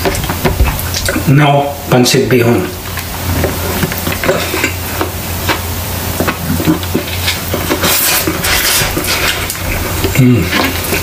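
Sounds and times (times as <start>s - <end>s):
wet chewing and slurping: 0.0s - 1.3s, 2.8s - 11.0s.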